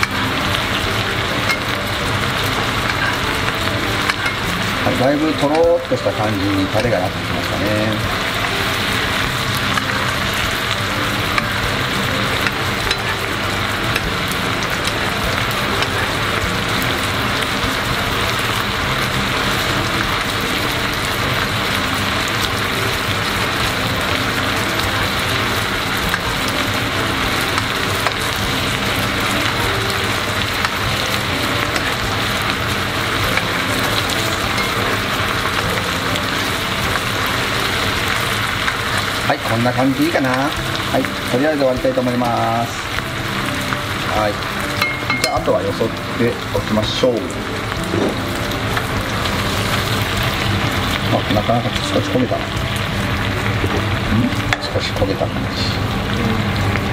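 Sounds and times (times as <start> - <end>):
sauce bubbling and sizzling in pan: 0.0 - 56.9.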